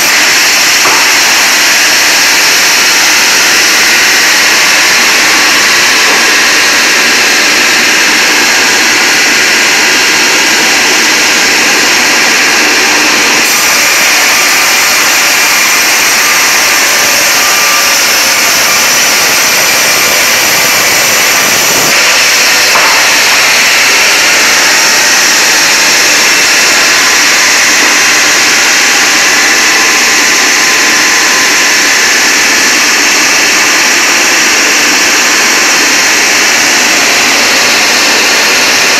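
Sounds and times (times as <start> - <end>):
band sawmill whining and hissing: 0.0 - 38.9.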